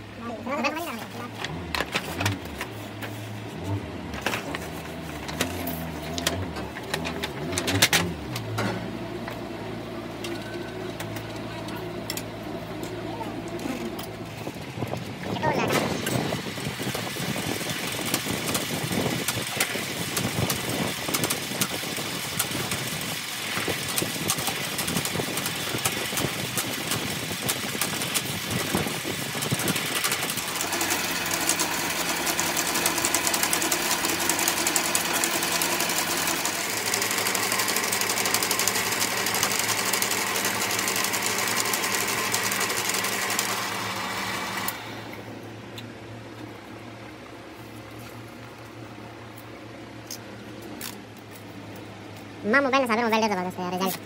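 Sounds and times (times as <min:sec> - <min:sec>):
coil winding machine running: 0:00.0 - 0:45.6.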